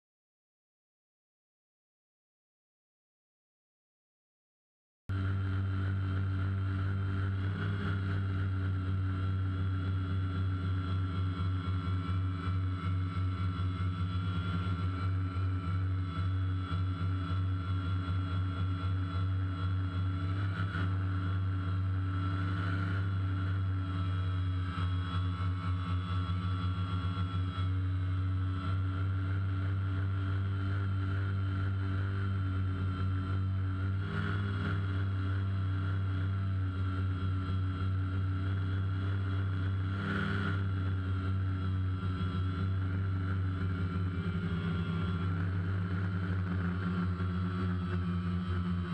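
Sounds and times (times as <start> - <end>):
drone propellers droning: 5.1 - 48.9.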